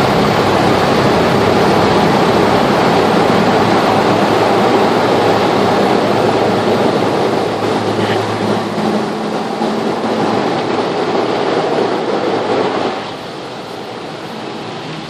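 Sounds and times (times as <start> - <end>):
car wash water and machinery: 0.0 - 15.0.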